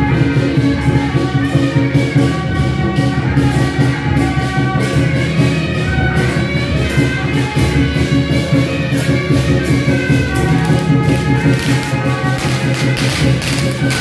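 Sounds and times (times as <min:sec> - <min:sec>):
music with a steady beat: 0:00.0 - 0:14.0.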